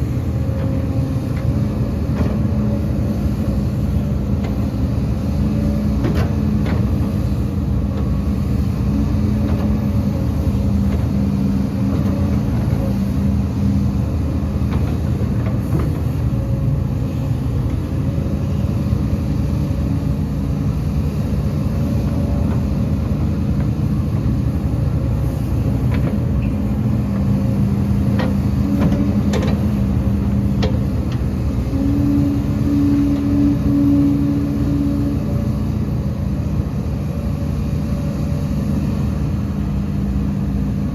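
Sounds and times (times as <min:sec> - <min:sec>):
heavy diesel machinery rumbling: 0:00.0 - 0:40.9.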